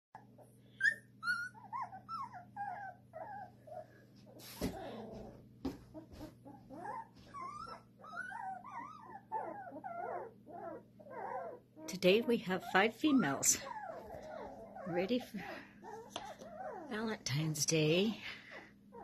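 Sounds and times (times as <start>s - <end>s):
puppies whimpering and squeaking: 0.2s - 19.0s.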